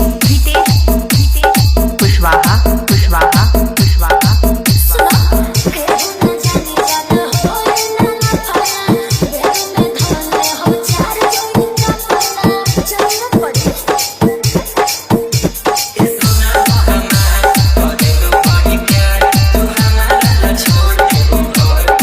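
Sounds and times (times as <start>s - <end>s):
repeating held melody: 0.0s - 11.8s, 16.0s - 22.0s
fast drum beat: 0.0s - 22.0s.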